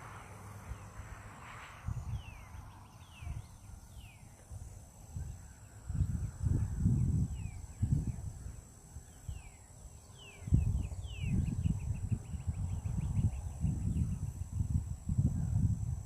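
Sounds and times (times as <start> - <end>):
songbird singing: 0.0 - 16.0
wind buffeting microphone: 0.0 - 16.0.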